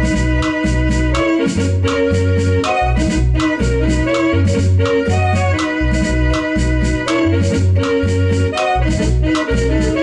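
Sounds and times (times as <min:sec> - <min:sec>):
electric bass line: 0:00.0 - 0:10.0
electronic keyboard tones: 0:00.0 - 0:10.0.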